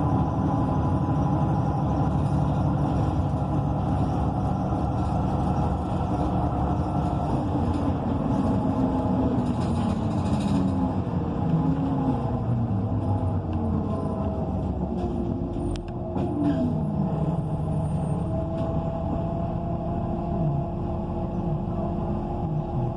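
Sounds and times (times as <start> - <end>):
bus engine running: 0.0 - 22.9
road noise: 0.0 - 22.9.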